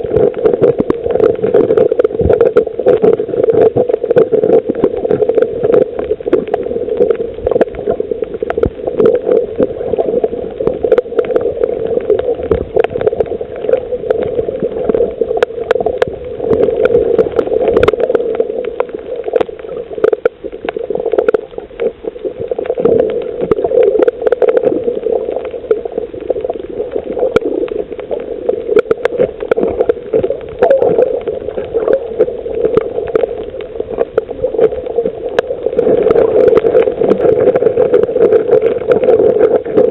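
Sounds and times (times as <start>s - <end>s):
muffled underwater rush: 0.0s - 39.9s
sharp clicks and crackles: 0.0s - 39.9s.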